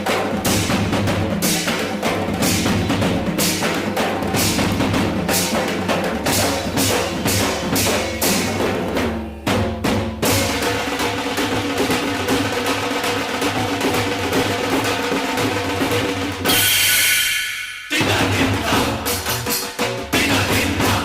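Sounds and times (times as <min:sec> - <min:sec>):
music with steady drum beat: 0:00.0 - 0:21.0.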